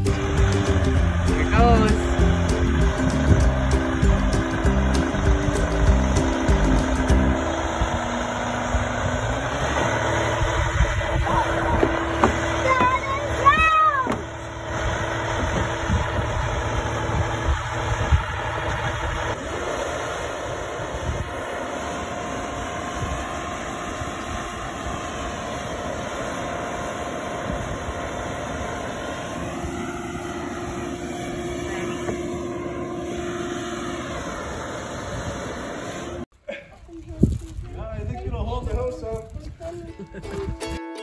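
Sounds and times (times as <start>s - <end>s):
crane engine running: 0.0s - 36.3s.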